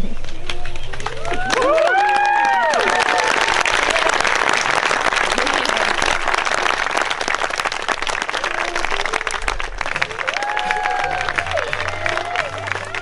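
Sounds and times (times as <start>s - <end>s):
crowd applauding: 0.2s - 13.0s.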